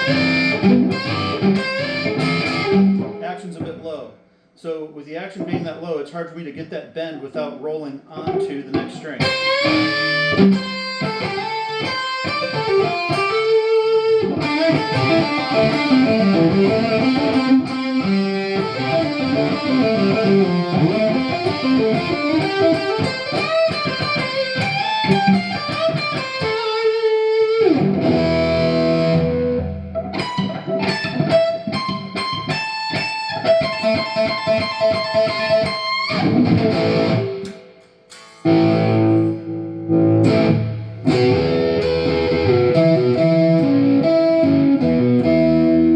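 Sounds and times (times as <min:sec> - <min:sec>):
electric guitar through amp: 0:00.0 - 0:03.8, 0:08.2 - 0:45.9.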